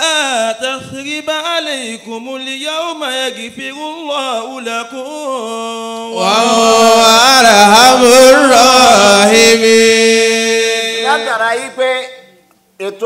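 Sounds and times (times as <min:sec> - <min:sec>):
person chanting recitation: 0:00.0 - 0:12.3.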